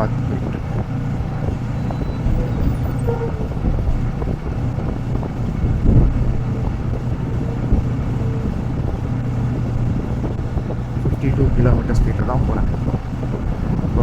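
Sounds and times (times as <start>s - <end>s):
motorcycle engine drone: 0.0s - 14.0s
road noise: 0.0s - 14.0s
wind noise: 0.0s - 14.0s.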